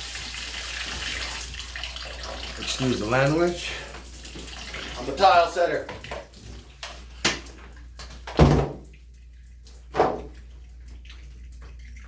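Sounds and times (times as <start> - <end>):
shower water running into tub: 0.0 - 12.0.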